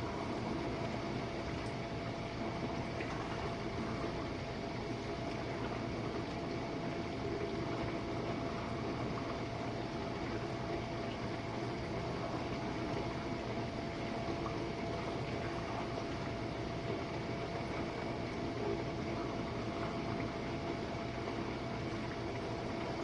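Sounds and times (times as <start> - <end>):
dishwasher pump hum: 0.0 - 23.0
faint constant whine: 0.0 - 23.0
water sloshing and spraying: 0.1 - 23.0.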